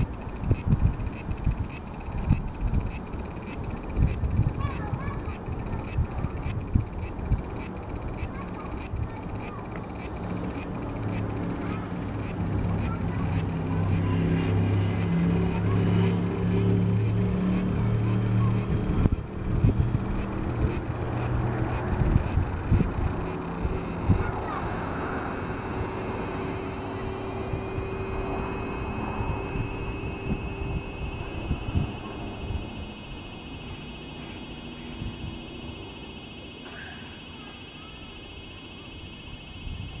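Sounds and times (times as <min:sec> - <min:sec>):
cicada buzzing: 0:00.0 - 0:40.0.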